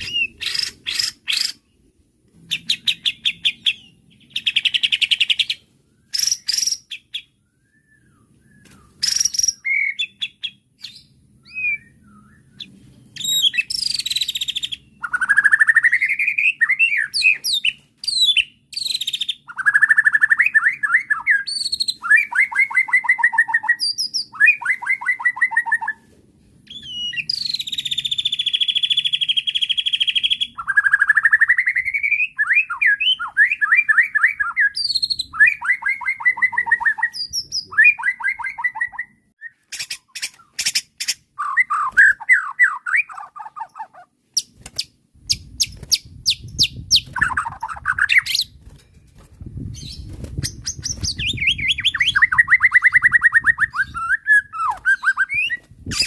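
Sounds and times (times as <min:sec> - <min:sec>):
songbird singing trills and whistles: 0:00.0 - 0:01.8, 0:02.4 - 0:48.6, 0:49.7 - 0:56.0.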